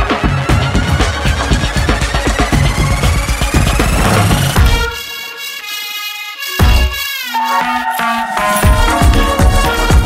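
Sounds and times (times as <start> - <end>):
electronic dance music build-up: 0.5 - 10.0.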